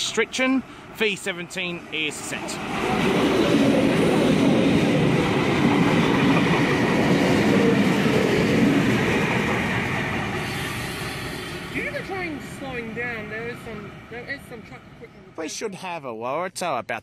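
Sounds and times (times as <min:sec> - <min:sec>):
train wheels rumbling: 0:00.0 - 0:15.1.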